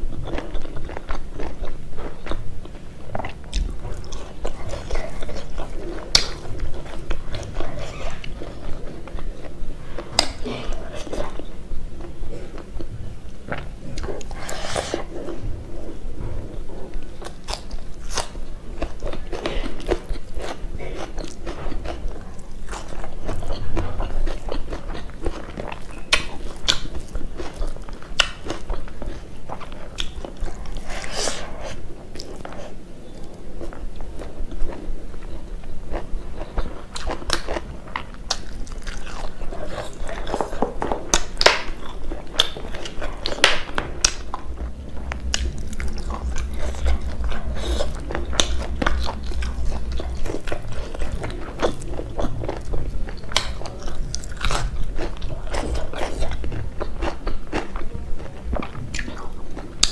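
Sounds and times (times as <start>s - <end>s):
close chewing and lip smacks: 0.0s - 59.9s.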